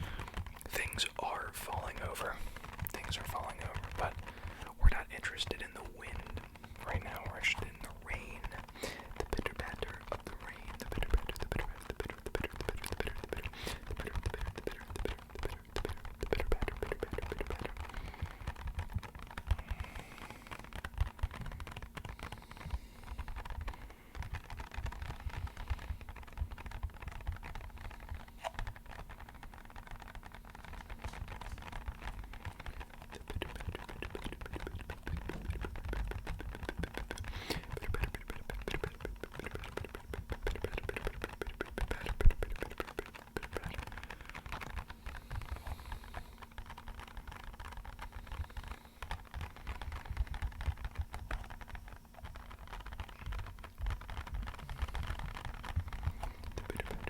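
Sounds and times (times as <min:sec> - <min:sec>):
rapid tapping on empty box: 0:00.0 - 0:57.0.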